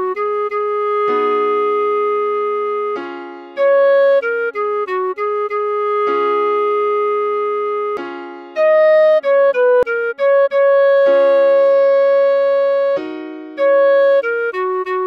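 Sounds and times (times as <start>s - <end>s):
clarinet playing slow melody: 0.0s - 15.0s.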